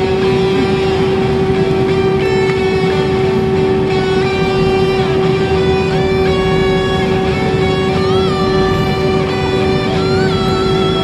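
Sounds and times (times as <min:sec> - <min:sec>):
background guitar music: 0:00.0 - 0:11.0
jet engines drone in cabin: 0:00.0 - 0:11.0.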